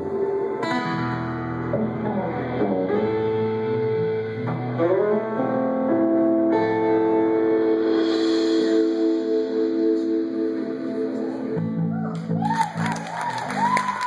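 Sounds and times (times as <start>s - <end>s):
lead guitar with bending notes: 0.0s - 12.9s
live band playing guitar music: 0.0s - 14.0s.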